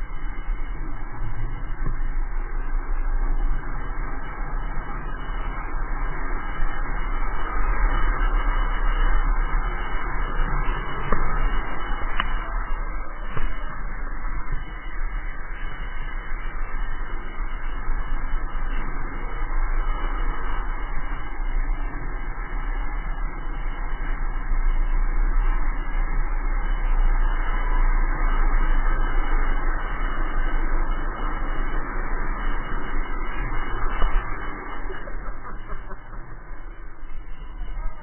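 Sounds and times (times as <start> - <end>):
road rumble: 0.0 - 38.0.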